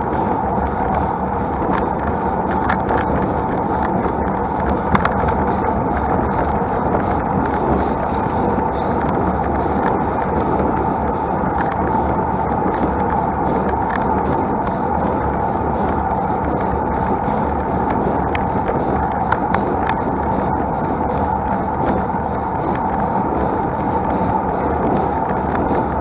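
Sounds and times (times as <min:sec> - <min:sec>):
bike clicks and rattles: 0:00.0 - 0:26.0
wind and tyres rushing: 0:00.0 - 0:26.0.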